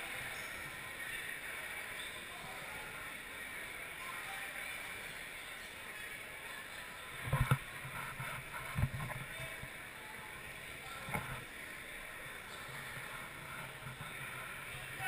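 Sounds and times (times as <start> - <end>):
spectators chattering: 0.0 - 15.0.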